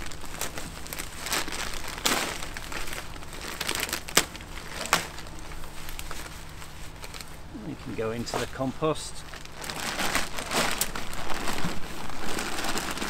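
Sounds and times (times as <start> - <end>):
plant foliage rustling: 0.0 - 13.0
plastic bag crinkling: 0.0 - 13.0.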